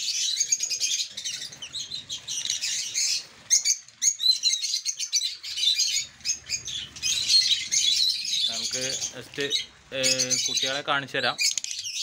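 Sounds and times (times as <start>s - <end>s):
lovebirds chirping: 0.0s - 12.0s.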